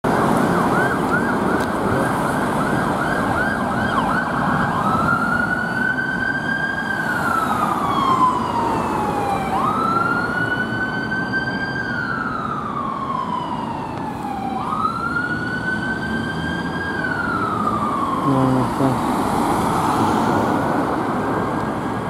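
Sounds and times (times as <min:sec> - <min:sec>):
road traffic noise: 0:00.0 - 0:22.0
ambulance siren yelp and wail: 0:00.1 - 0:22.0.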